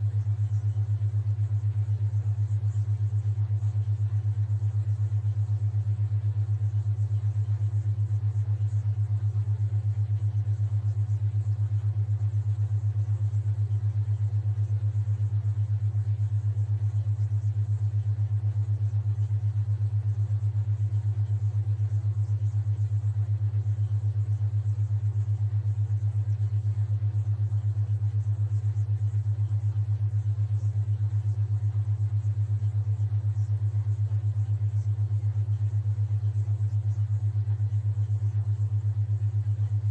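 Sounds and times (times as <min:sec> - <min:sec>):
pulsing low hum: 0:00.0 - 0:39.9.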